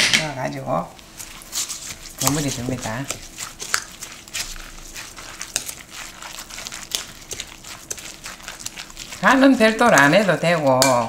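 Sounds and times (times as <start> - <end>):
spoon stirring wet mix: 0.6 - 11.0.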